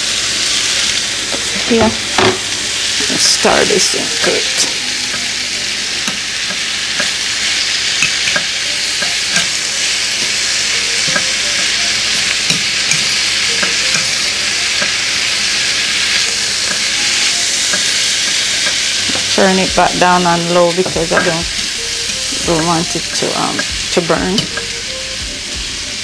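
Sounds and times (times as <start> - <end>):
vegetables sizzling in a frying pan: 0.0 - 26.0.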